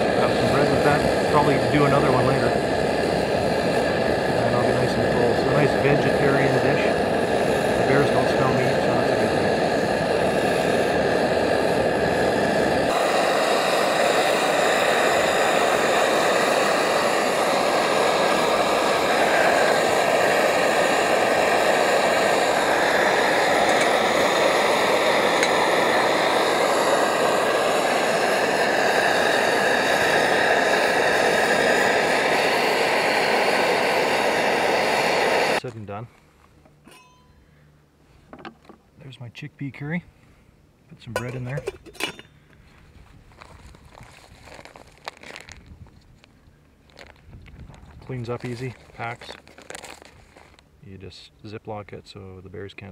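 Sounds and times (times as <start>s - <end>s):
camp stove burning hiss: 0.0s - 52.9s.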